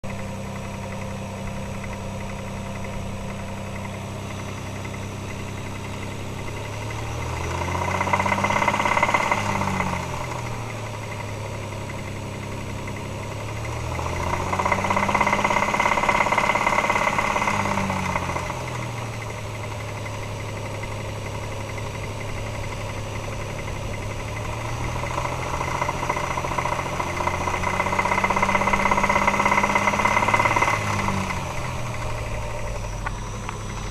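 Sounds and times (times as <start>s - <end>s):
car engine idling and revving: 0.0s - 33.9s
engine knock: 0.0s - 33.9s.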